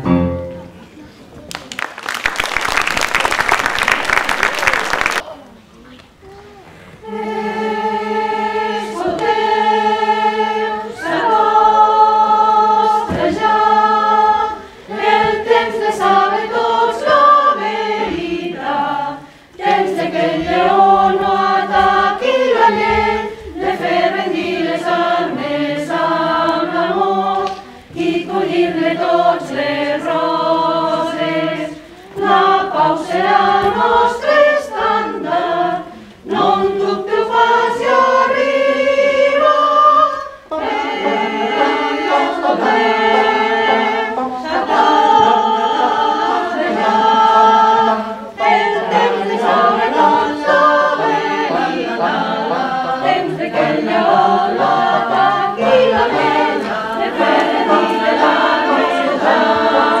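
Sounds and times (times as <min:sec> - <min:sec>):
mixed choir singing unaccompanied: 0:07.0 - 1:00.0.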